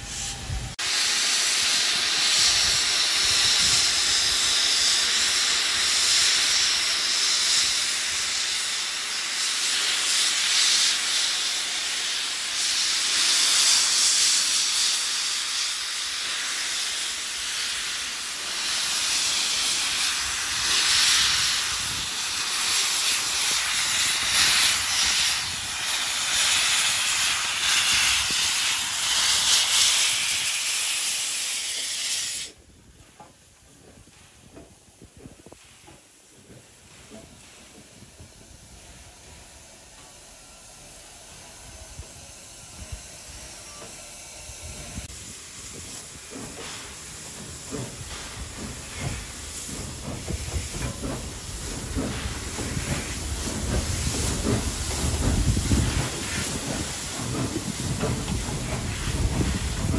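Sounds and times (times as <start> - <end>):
steam hissing from locomotive: 0.0 - 59.9.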